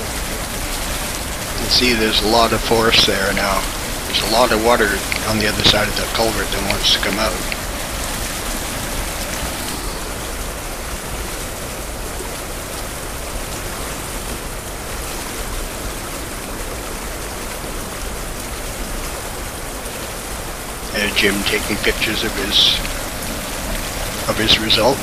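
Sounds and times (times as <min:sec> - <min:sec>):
water gushing from culvert: 0:00.0 - 0:25.0.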